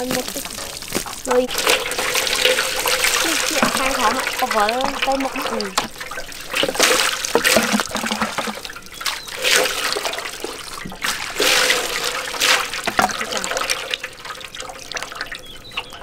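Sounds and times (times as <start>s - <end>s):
water splashing and pouring: 0.0s - 16.0s.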